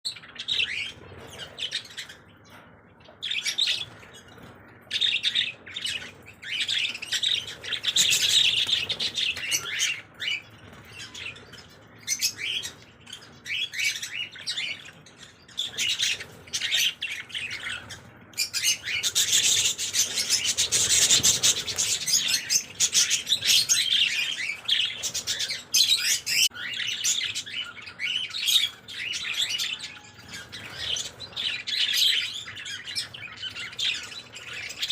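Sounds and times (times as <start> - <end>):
birds chirping and chattering: 0.1 - 34.9.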